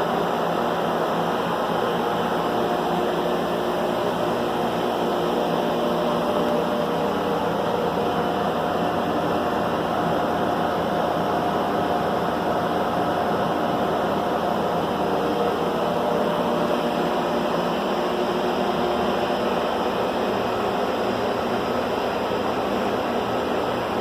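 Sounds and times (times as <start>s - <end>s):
air conditioner compressor humming: 0.0s - 24.0s.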